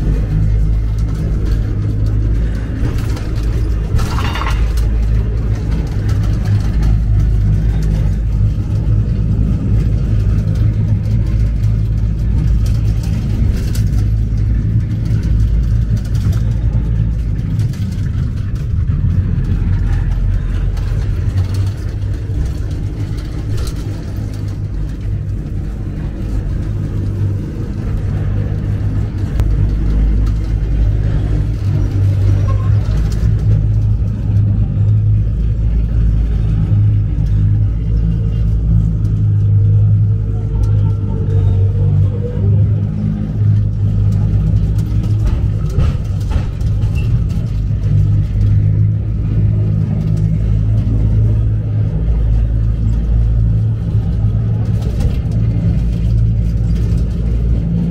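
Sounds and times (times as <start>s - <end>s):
clicks and rattles: 0.0s - 41.3s, 42.7s - 57.9s
funicular car rumbling on rails: 0.0s - 57.9s.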